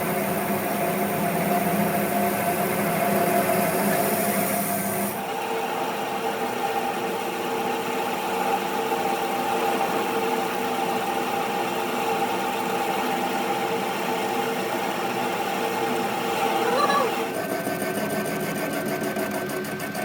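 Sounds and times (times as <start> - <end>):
workshop machine humming: 0.0 - 18.8.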